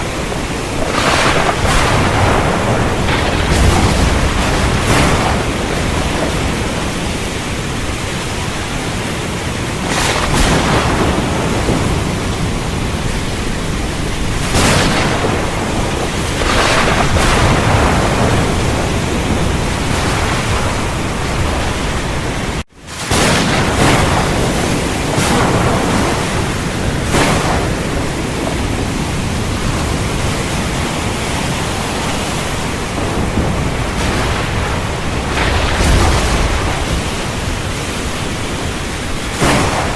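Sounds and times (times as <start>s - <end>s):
heavy rain falling: 0.0s - 39.9s
thunder cracks: 0.0s - 39.9s.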